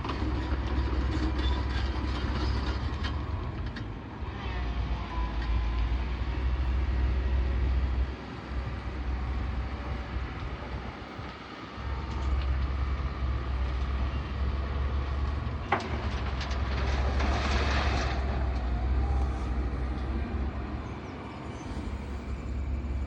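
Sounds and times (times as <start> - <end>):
heavy diesel engine rumbling: 0.0 - 23.0.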